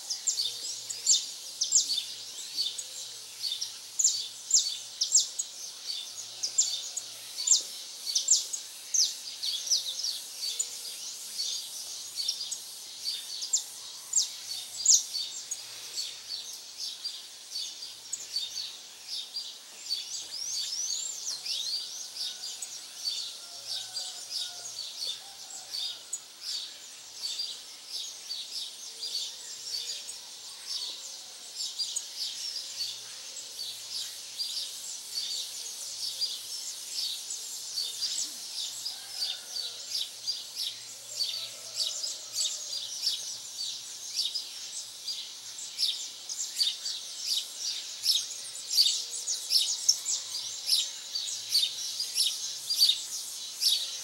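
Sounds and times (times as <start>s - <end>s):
small birds chirping: 0.0s - 22.8s, 31.5s - 54.0s.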